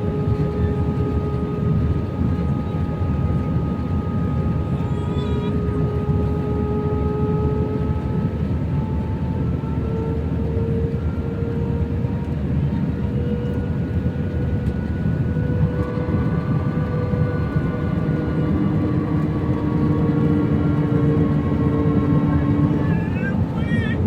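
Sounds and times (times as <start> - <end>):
jet engine cabin rumble: 0.0 - 24.0
whining engine tones: 0.0 - 24.0.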